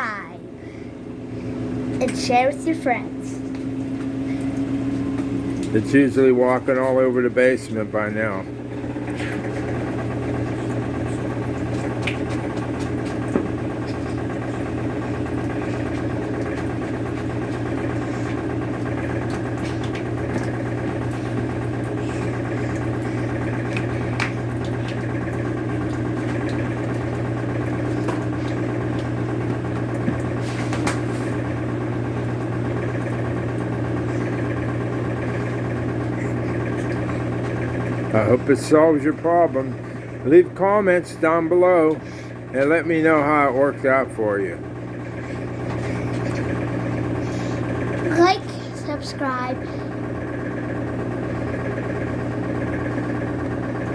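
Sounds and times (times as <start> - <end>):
washing machine spinning hum: 0.0 - 53.9.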